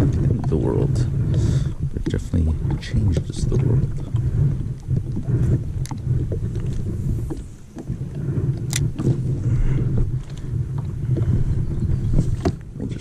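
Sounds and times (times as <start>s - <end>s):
water lapping against kayak hull: 0.0s - 13.0s
wind buffeting microphone: 0.0s - 13.0s.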